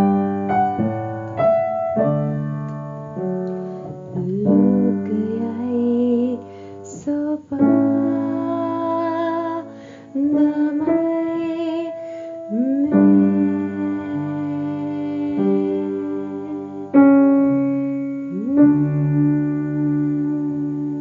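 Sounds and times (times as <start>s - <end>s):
piano and keyboard music: 0.0s - 21.0s.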